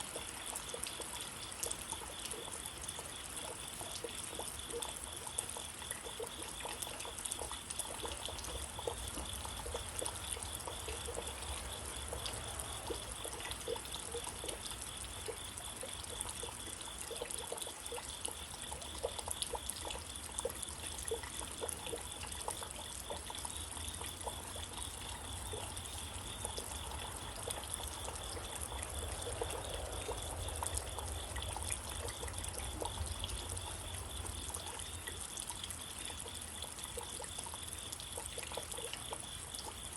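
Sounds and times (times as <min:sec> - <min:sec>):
steady rain falling: 0:00.0 - 0:22.7, 0:24.0 - 0:39.8
drops and drips: 0:00.0 - 0:39.9.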